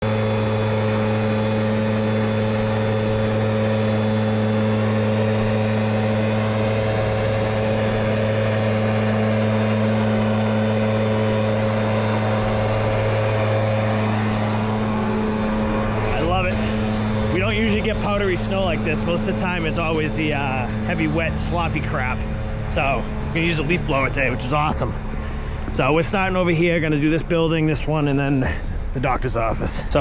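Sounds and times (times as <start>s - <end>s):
leaf blower running: 0.0s - 26.7s.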